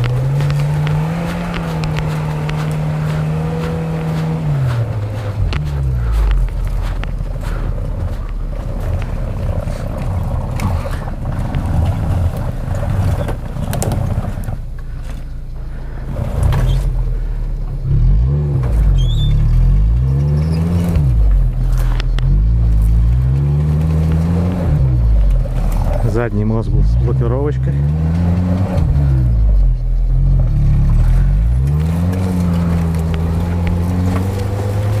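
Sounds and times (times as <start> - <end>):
suv engine revving under load: 0.0 - 35.0.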